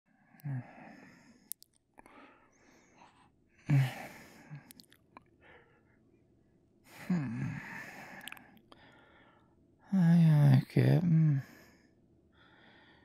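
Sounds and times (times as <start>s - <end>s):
soft breathing: 0.1s - 6.2s, 6.8s - 9.8s, 11.3s - 13.0s.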